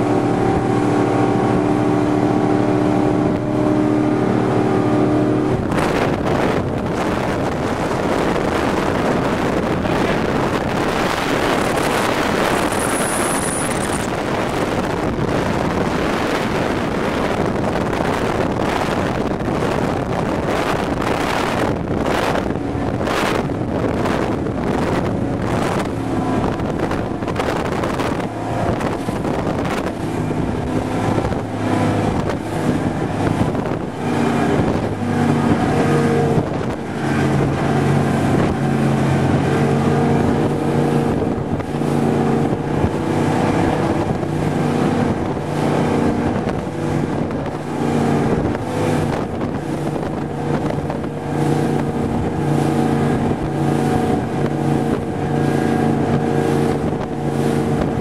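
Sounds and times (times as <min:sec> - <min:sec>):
powerboat engine running hard: 0:00.0 - 0:58.0
water rushing: 0:00.0 - 0:58.0
wind buffeting microphone: 0:00.0 - 0:58.0.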